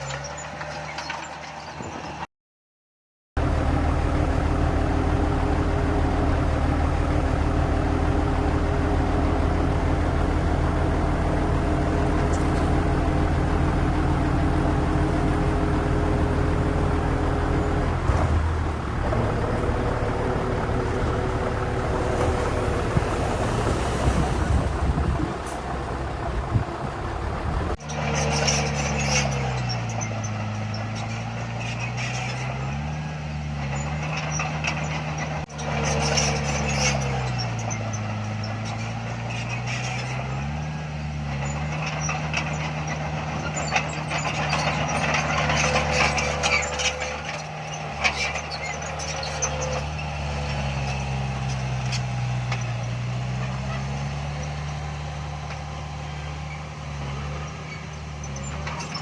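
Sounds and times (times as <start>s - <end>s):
heavy diesel machinery engines: 0.0s - 2.3s, 3.4s - 59.0s.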